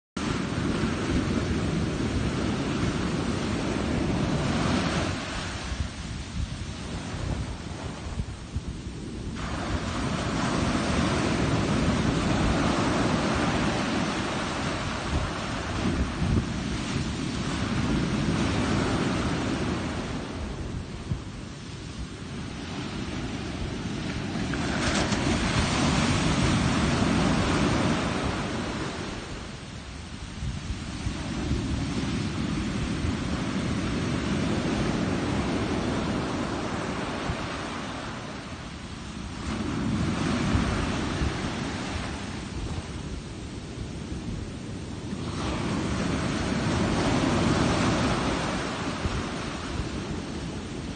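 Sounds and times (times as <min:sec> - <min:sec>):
ocean waves breaking on beach: 0:00.2 - 0:50.9
rushing surf wash: 0:00.2 - 0:50.9
wind buffeting microphone: 0:00.2 - 0:50.9.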